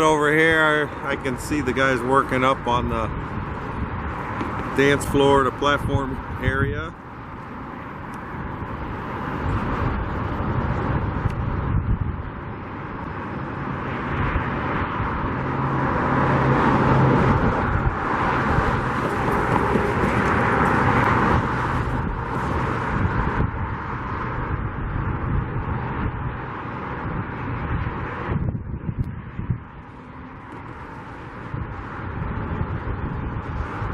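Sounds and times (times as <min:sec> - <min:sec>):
passing engine: 0:00.0 - 0:33.9
road traffic: 0:00.0 - 0:33.9
wind on microphone: 0:00.6 - 0:33.9.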